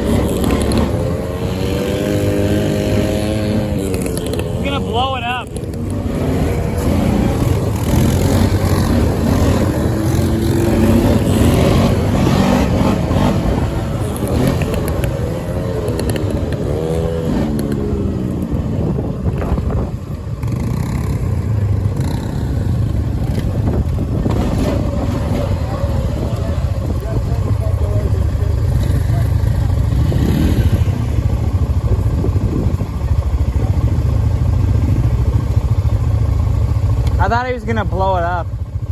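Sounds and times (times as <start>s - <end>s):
dirt bike engine revving: 0.0s - 38.2s.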